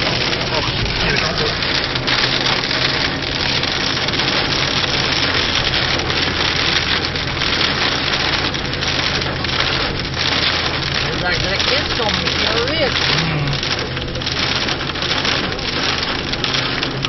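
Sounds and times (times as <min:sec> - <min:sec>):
car engine and road hum: 0:00.0 - 0:17.0
heavy rain and hail on car roof: 0:00.0 - 0:17.0.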